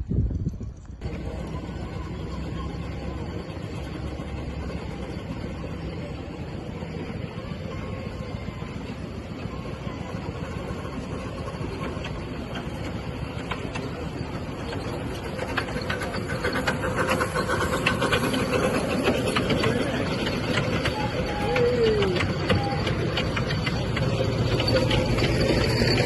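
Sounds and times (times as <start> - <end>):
miniature steam engine running: 1.0 - 26.0.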